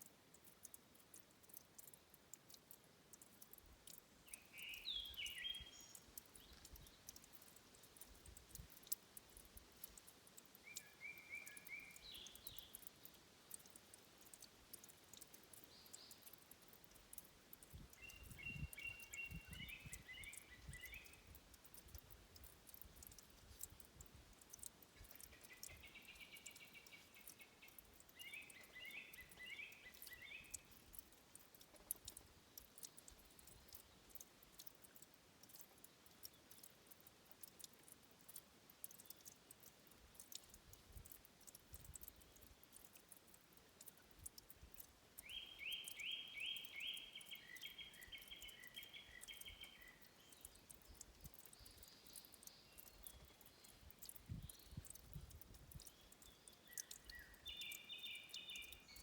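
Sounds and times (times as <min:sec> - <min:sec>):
faint ticks: 0:00.0 - 0:59.0
songbird singing: 0:00.3 - 0:59.0.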